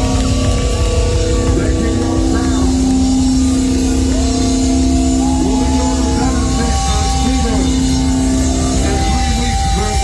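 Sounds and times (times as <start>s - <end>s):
heavy metal band playing: 0.0s - 10.0s.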